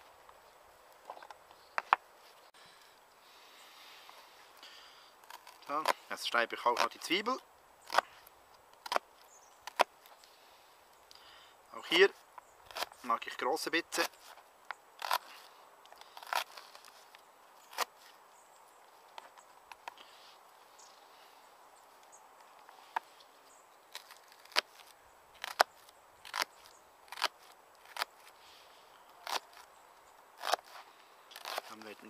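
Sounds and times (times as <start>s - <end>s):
faint outdoor hiss: 0.0s - 32.0s.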